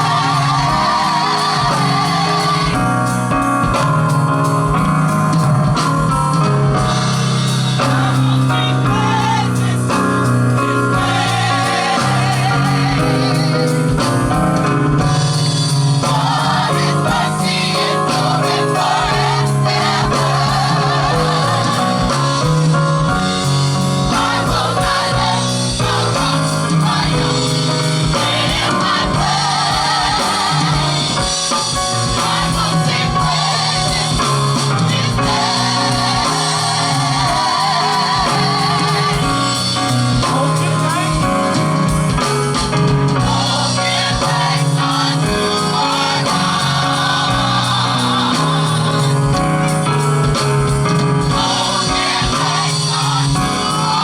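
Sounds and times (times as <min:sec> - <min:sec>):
bass guitar: 0:00.0 - 0:54.0
drum kit: 0:00.0 - 0:54.0
voices singing together: 0:00.0 - 0:54.0.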